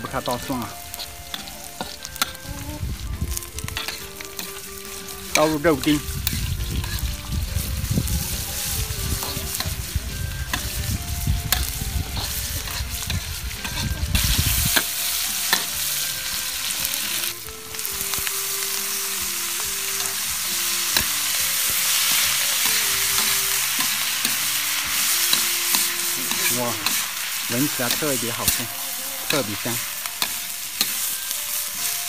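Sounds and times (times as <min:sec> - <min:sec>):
food sizzling in hot oil: 0:00.0 - 0:32.0
metal spatula scraping wok: 0:00.0 - 0:32.0.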